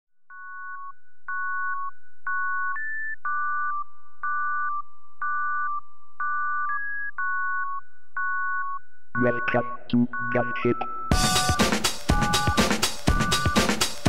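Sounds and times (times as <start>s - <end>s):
synthesizer music of electronic beeps: 0.3s - 14.0s.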